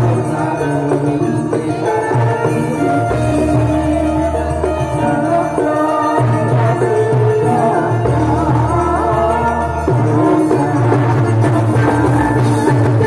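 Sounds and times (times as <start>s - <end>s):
gamelan ensemble playing: 0.0s - 13.0s
person singing: 0.0s - 13.0s.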